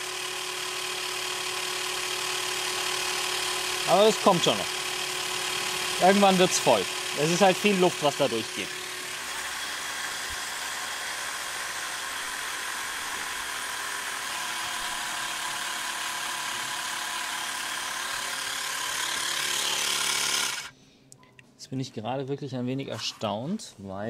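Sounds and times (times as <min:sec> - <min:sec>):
air compressor motor hum: 0:00.0 - 0:20.8.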